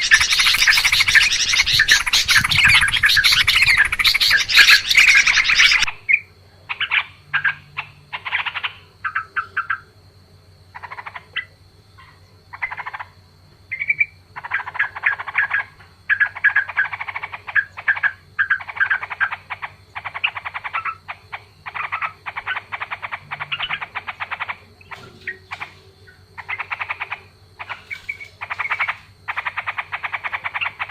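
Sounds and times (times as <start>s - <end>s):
bulbuls chattering calls: 0.0s - 9.9s, 10.7s - 30.9s
faint steady hum: 0.0s - 30.9s.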